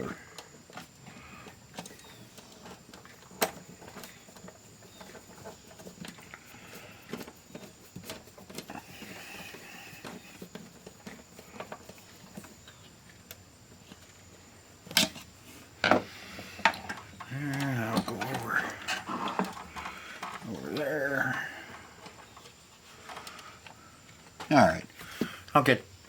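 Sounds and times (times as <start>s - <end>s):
small parts clicking and rustling: 0.0s - 25.6s.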